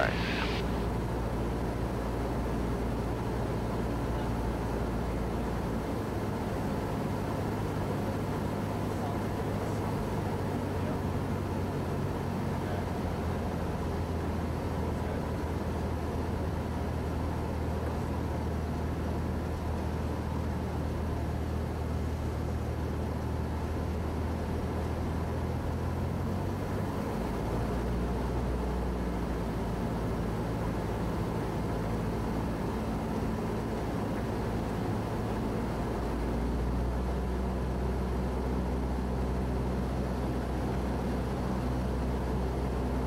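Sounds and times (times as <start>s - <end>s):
plane engine and propeller: 0.0s - 43.0s.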